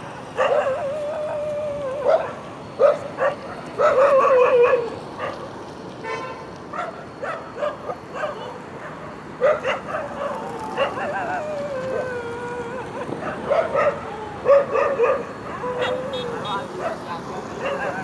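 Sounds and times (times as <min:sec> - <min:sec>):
dog long drawn-out calls: 0:00.0 - 0:18.0
dog barking: 0:00.3 - 0:01.0, 0:02.0 - 0:12.0, 0:13.2 - 0:18.0.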